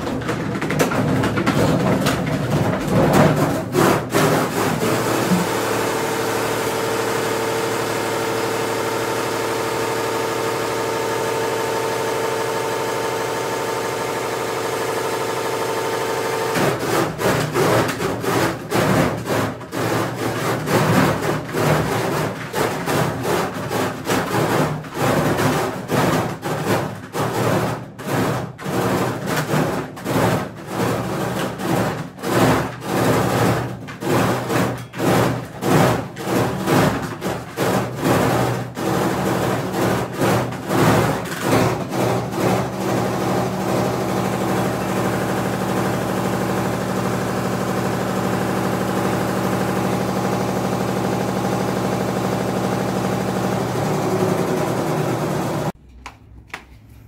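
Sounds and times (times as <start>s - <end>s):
tub banging and rattling: 0.0s - 55.8s
washing machine spinning: 0.0s - 55.8s.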